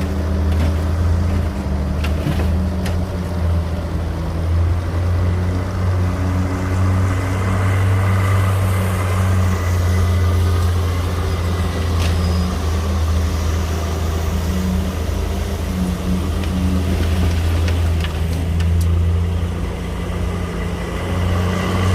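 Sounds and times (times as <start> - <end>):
diesel engine running steadily: 0.0 - 21.9.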